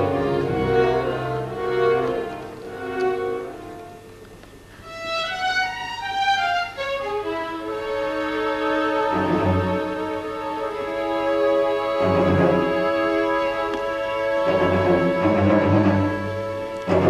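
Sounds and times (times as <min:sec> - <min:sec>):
high violin melody: 0:00.0 - 0:04.2, 0:04.8 - 0:17.0
string orchestra chords: 0:00.0 - 0:17.0.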